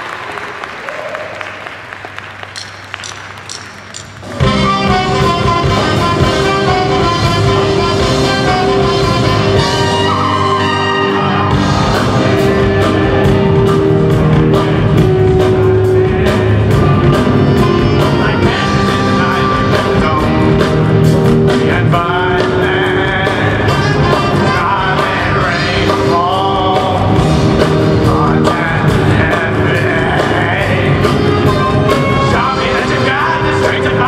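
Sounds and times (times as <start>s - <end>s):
drum kit beat: 2.6s - 34.0s
bass guitar: 4.2s - 34.0s
saxophones and trumpet: 4.4s - 34.0s.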